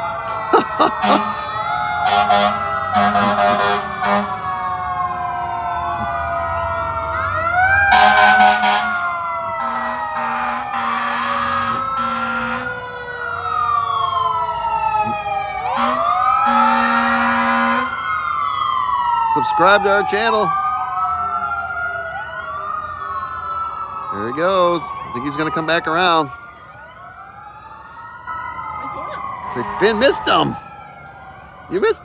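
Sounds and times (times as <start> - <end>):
sirens wailing: 0.0 - 32.0.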